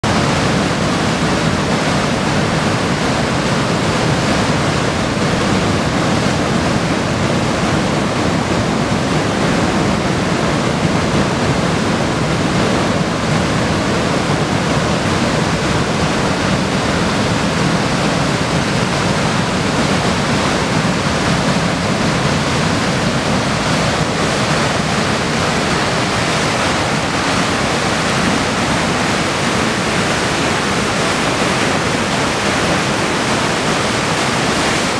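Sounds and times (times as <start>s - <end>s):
river rushing over waterfall: 0.0s - 34.9s.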